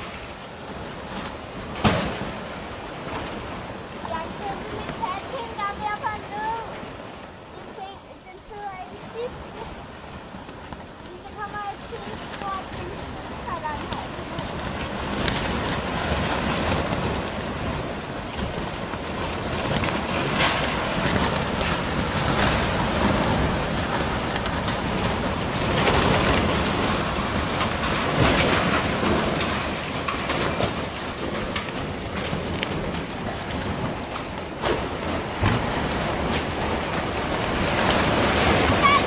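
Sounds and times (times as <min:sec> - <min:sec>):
storm wind: 0:00.0 - 0:39.0.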